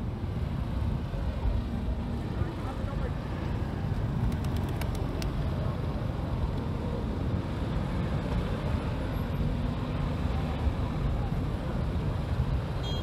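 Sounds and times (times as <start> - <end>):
city road traffic rumble: 0.0 - 13.0.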